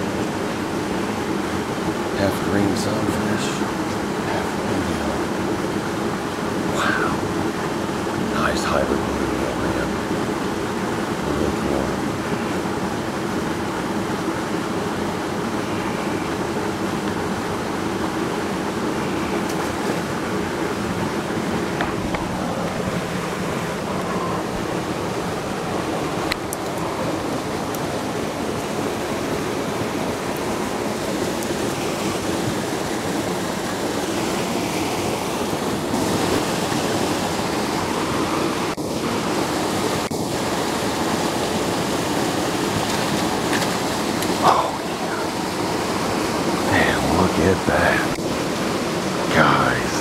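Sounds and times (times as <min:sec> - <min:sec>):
water rushing through spillway: 0:00.0 - 0:50.0.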